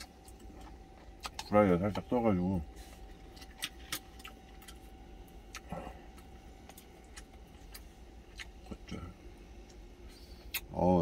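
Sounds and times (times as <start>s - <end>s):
chewing: 0.0s - 2.1s, 2.7s - 10.7s
faint low hum: 0.0s - 11.0s.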